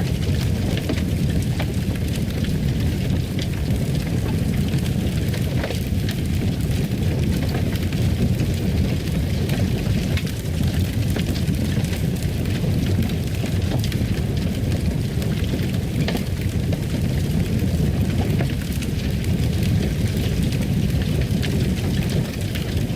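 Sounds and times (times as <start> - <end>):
low rumble of flames: 0.0 - 22.9
wood fire crackling and popping: 0.0 - 22.9.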